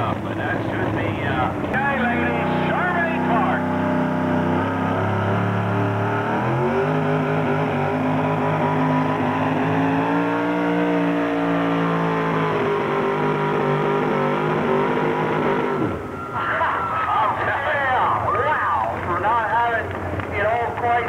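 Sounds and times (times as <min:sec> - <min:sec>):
truck engine at high revs: 0:00.0 - 0:18.2.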